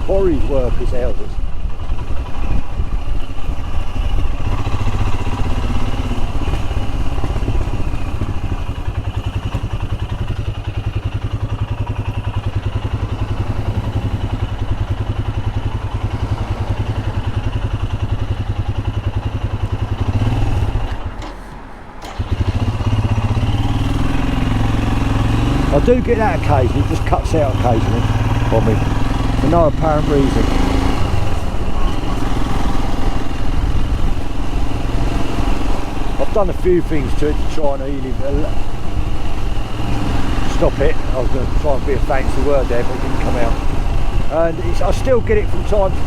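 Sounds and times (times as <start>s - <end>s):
single-cylinder motorcycle engine running: 0.0s - 46.0s.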